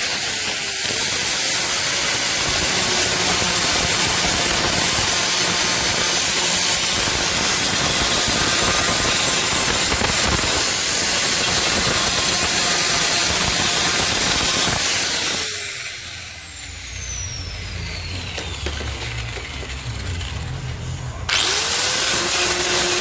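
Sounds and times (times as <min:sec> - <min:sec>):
power grinder grinding plastic: 0:00.0 - 0:23.0.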